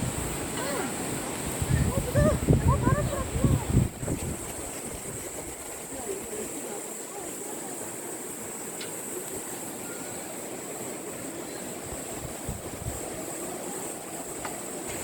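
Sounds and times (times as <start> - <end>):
high-pitched hiss: 0.0 - 15.0
river water rushing: 0.0 - 15.0
wind: 0.0 - 15.0.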